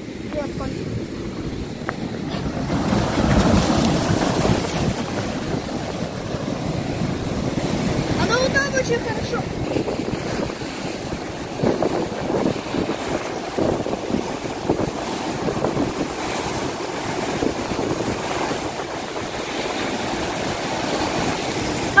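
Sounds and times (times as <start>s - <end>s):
surf breaking on rocks: 0.0s - 22.0s.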